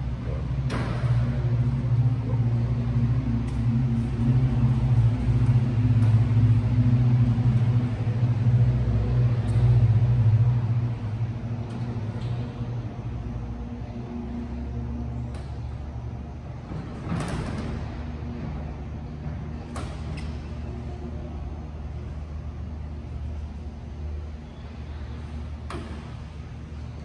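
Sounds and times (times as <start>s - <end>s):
low mechanical engine drone: 0.0s - 27.0s.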